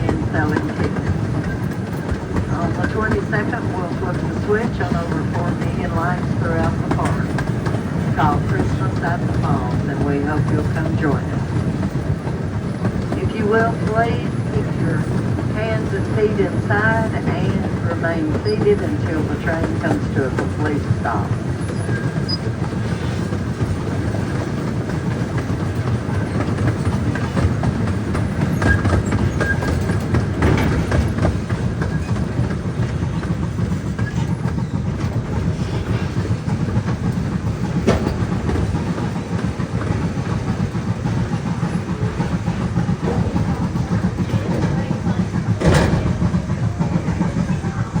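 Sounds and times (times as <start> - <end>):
train cars rumbling: 0.0 - 48.0
wheels clacking: 0.0 - 48.0.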